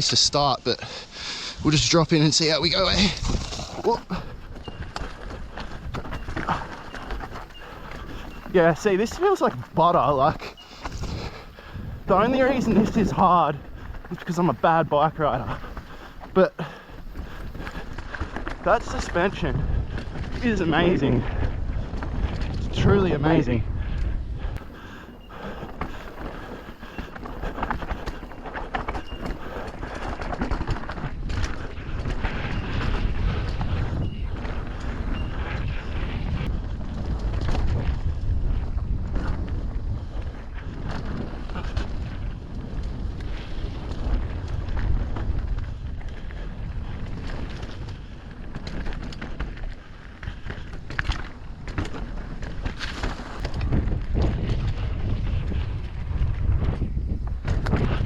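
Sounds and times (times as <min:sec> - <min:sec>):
mountain bike rumbling on trail: 0:00.0 - 0:58.0
wind buffeting microphone: 0:00.0 - 0:58.0.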